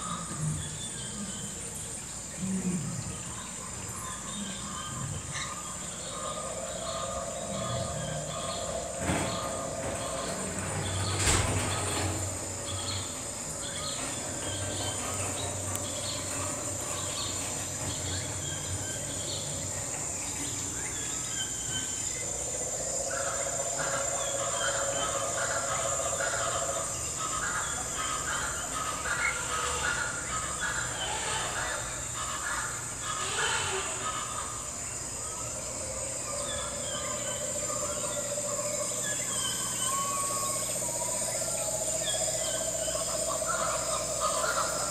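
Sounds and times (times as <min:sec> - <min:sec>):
high insect chirring: 0:00.0 - 0:44.9
long low bird call: 0:02.5 - 0:44.9
bird chirps: 0:03.0 - 0:32.3, 0:33.1 - 0:44.9.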